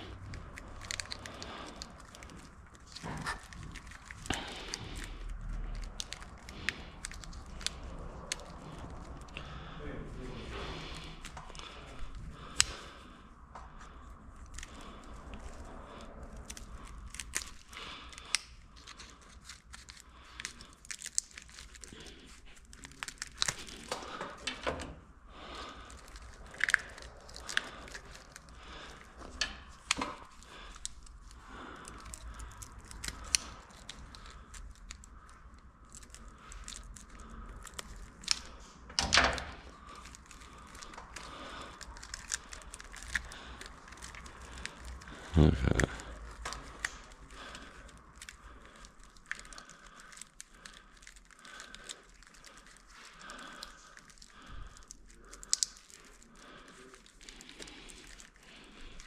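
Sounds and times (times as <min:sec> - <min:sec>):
loud plastic crackle: 0:00.0 - 0:13.1, 0:14.0 - 0:59.0
crinkling and tearing of wires and tape: 0:00.0 - 0:59.0.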